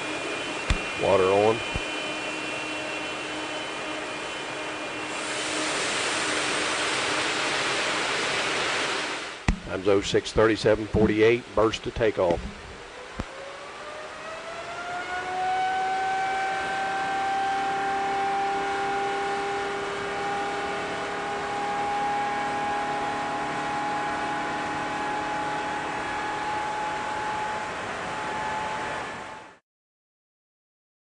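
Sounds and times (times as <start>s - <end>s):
loud rushing roar: 0.0s - 10.6s, 12.8s - 29.6s
jet engine whine: 0.0s - 29.6s.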